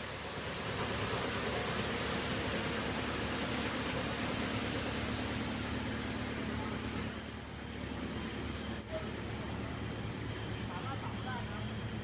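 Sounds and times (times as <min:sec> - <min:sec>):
wood chipper running: 0:00.0 - 0:12.0.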